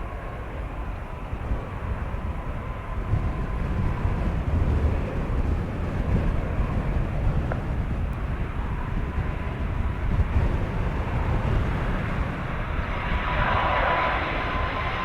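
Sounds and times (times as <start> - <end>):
jet engine rumble: 0.0 - 15.0
wind buffeting microphone: 0.0 - 15.0.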